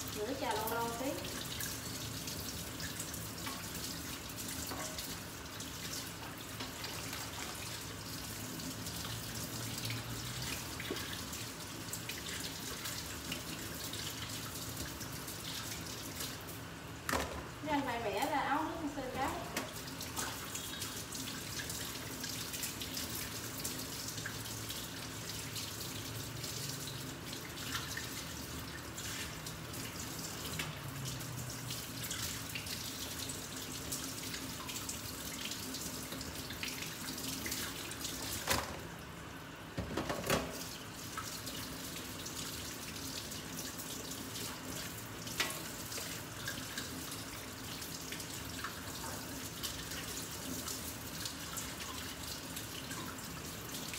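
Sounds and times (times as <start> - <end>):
tap water running into sink: 0.0 - 53.9.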